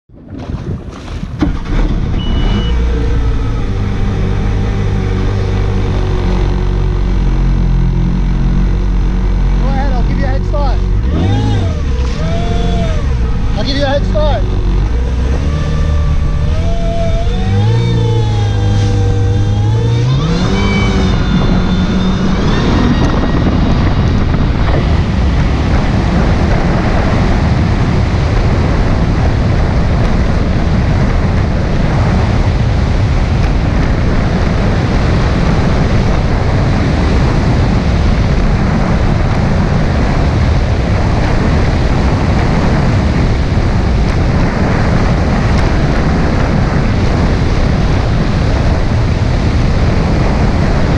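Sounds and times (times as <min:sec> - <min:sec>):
water rushing: 0:00.1 - 0:50.9
jet ski engine running hard: 0:00.2 - 0:50.9.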